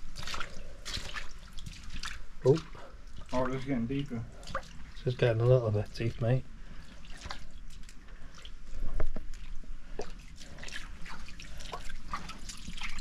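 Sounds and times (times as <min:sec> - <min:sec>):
boots splashing through water: 0:00.0 - 0:05.4, 0:06.8 - 0:08.6, 0:09.2 - 0:13.0.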